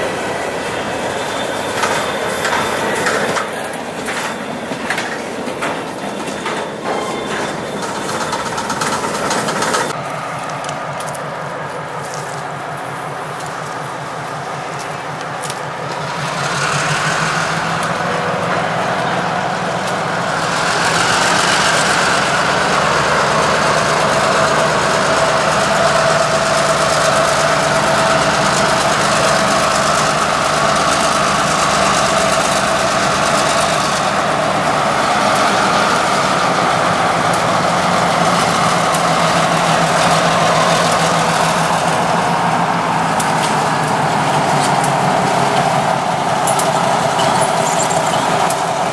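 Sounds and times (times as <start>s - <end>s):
diesel locomotive engine running: 0.0s - 48.9s.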